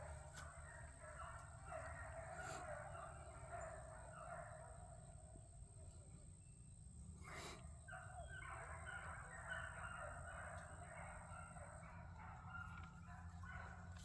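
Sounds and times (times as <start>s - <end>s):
distant hounds baying: 0.0s - 14.0s.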